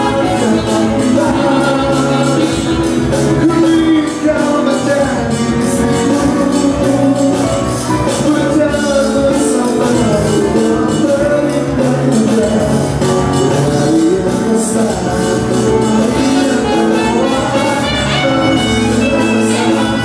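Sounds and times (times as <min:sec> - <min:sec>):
live band music: 0:00.0 - 0:20.0
man singing into microphone: 0:00.0 - 0:20.0.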